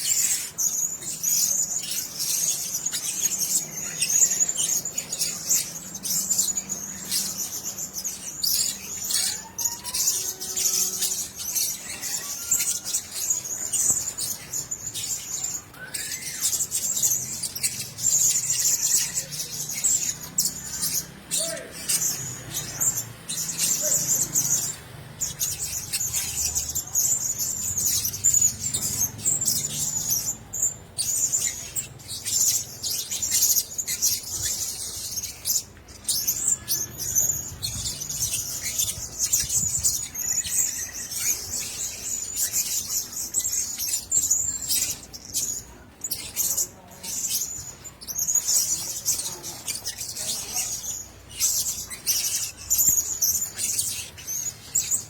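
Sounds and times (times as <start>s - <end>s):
parrots chirping shrilly: 0.0s - 55.0s.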